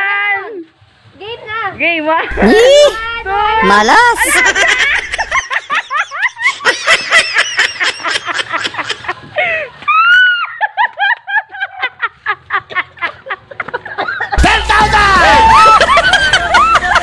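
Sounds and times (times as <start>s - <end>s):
people laughing: 2.3s - 9.6s, 10.6s - 17.0s.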